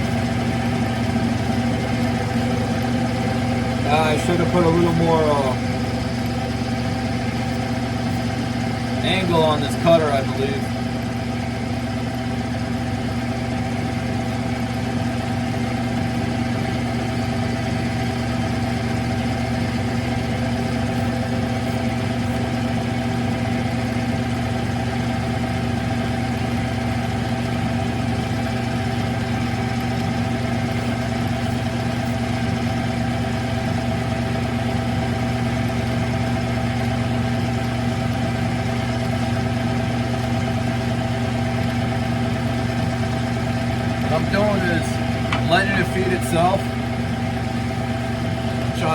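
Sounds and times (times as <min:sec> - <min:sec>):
lathe motor and gear hum: 0:00.0 - 0:48.9.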